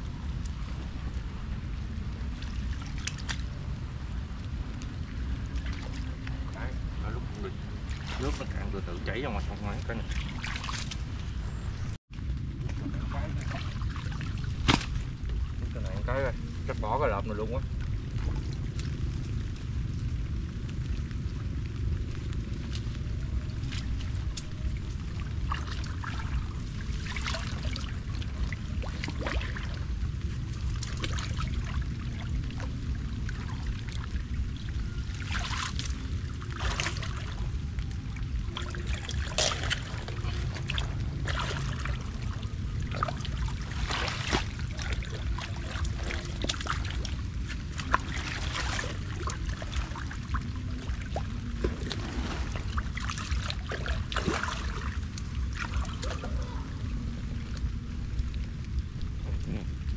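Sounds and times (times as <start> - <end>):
shallow water splashing and trickling: 0.0 - 59.9
steady low rumble: 0.0 - 59.9.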